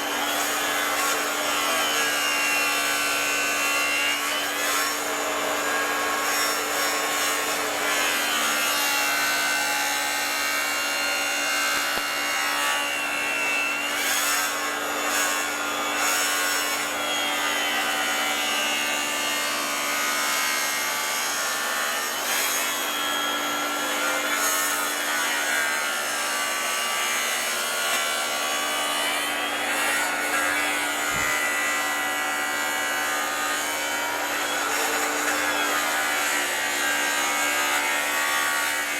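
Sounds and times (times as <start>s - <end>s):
track saw cutting wood: 0.0s - 38.9s.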